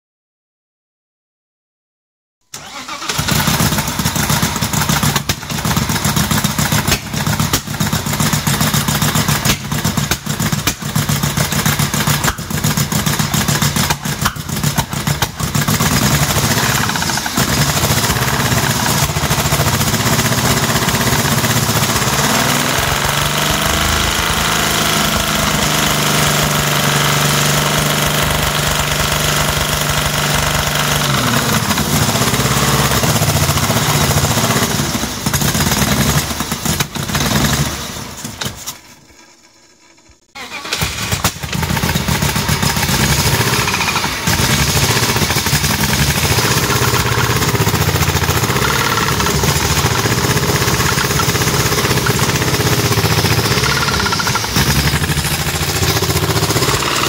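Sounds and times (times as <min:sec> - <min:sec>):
car engine idling roughly: 0:02.6 - 0:57.0.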